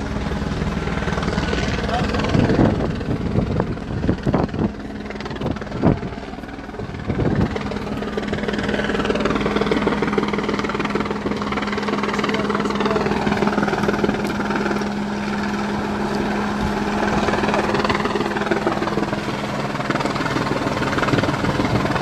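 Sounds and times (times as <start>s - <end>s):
low engine drone: 0.0s - 22.0s
steady hum: 0.0s - 22.0s.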